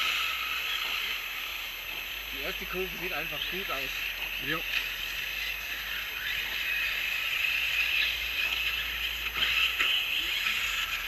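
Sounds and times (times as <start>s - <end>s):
electric rc cars whining: 0.0s - 11.0s.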